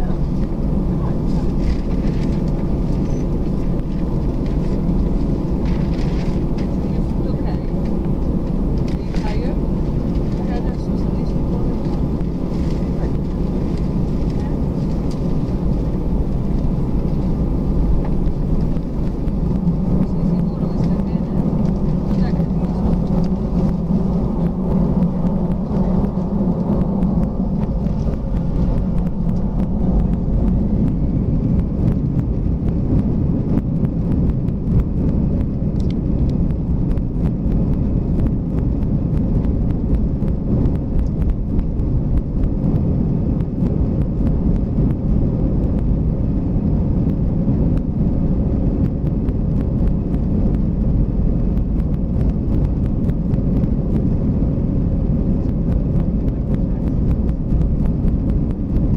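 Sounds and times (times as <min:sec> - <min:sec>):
jet engines rumbling: 0:00.0 - 0:58.9.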